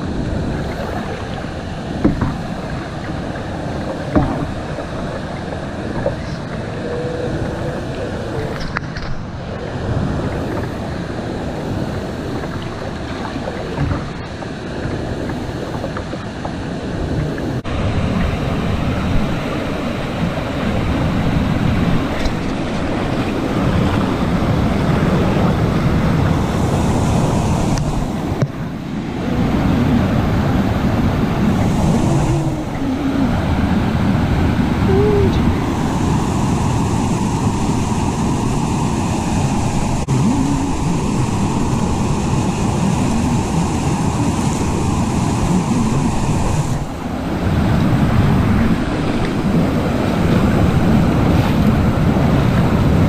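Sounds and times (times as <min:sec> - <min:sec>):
water rushing over dam: 0:00.0 - 0:53.0.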